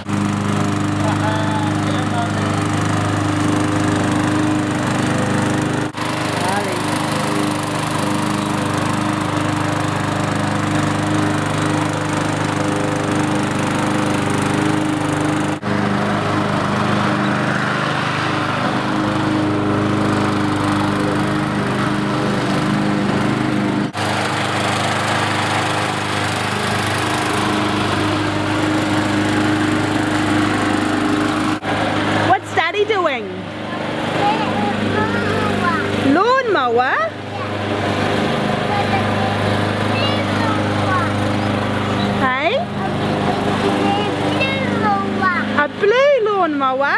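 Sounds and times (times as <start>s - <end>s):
lawn mower running: 0.0s - 46.9s.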